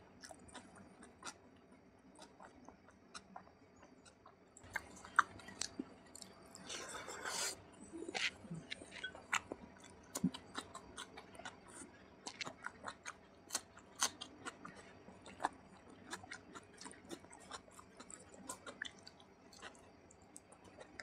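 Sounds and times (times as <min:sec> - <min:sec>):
chewing with wet mouth clicks: 0:00.2 - 0:06.7, 0:08.0 - 0:21.0.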